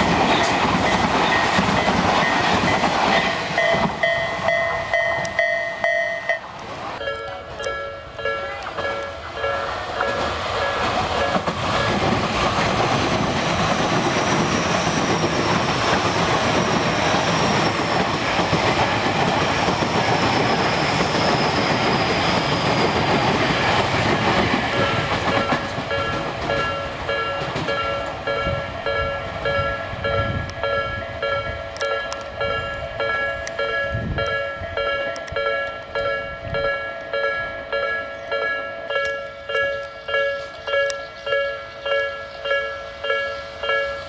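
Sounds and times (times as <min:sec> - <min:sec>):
crossing warning bell ringing: 0:00.0 - 0:12.4, 0:13.1 - 0:44.0
electric train passing: 0:00.0 - 0:44.0.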